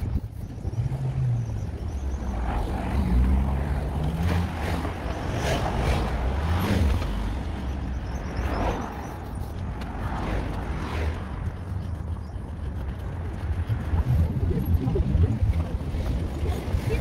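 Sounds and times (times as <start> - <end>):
road noise: 0.0 - 17.0
vehicle engines passing: 0.0 - 17.0.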